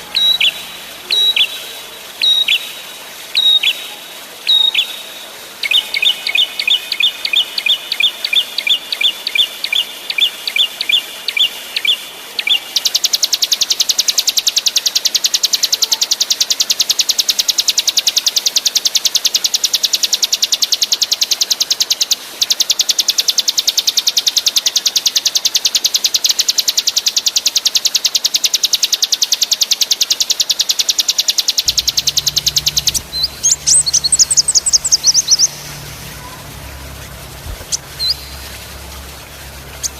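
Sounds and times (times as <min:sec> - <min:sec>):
songbird singing with trills: 0:00.0 - 0:18.7, 0:19.9 - 0:39.9.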